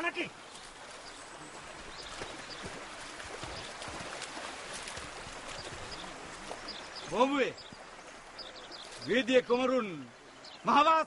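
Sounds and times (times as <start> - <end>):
soft water splashes: 0.0 - 10.8
running water rushing: 0.0 - 11.0.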